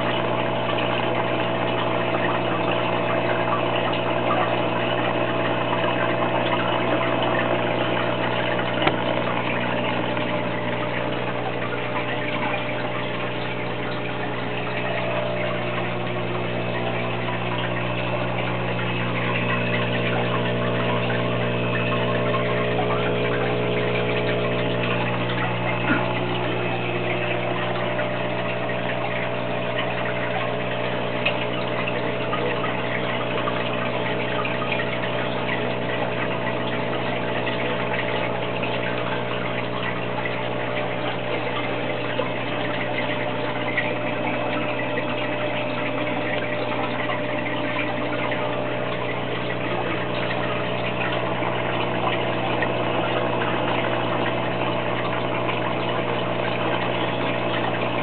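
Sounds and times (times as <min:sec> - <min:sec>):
aquarium pump humming: 0:00.0 - 0:58.0
water bubbling and trickling: 0:00.0 - 0:58.0.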